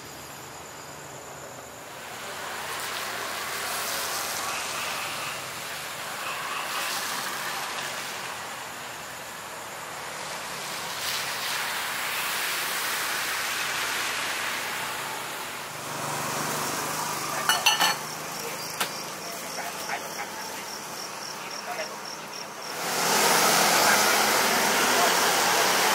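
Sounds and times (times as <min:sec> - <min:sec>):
tyres hissing on wet road: 0:00.0 - 0:25.9.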